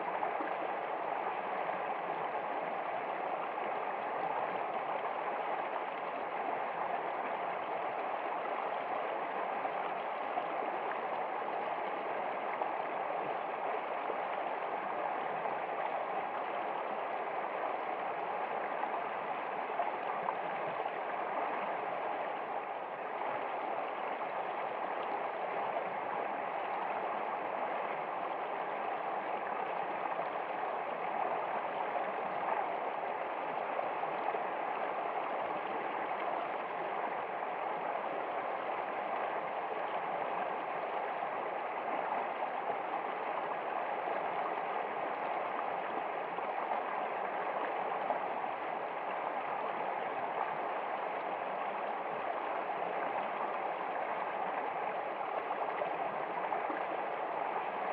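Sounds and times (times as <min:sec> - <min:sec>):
stream running water: 0:00.0 - 0:57.9.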